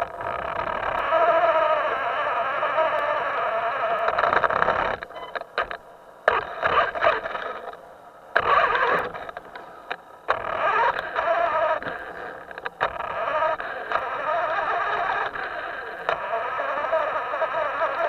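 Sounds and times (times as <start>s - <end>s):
small electric motor buzzing: 0.0s - 5.1s, 8.4s - 18.0s.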